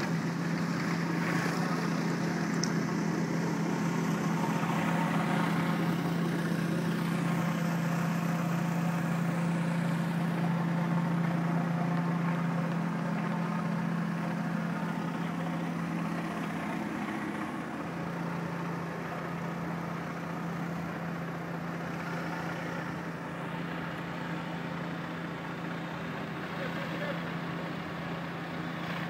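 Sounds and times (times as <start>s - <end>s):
pressure washer engine hum: 0.0s - 29.0s.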